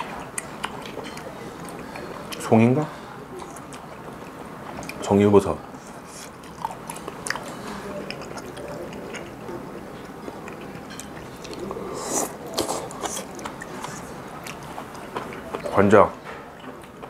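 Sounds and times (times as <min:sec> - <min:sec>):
person chewing food: 0:00.0 - 0:02.4, 0:03.4 - 0:05.0, 0:05.8 - 0:15.8, 0:16.5 - 0:17.0.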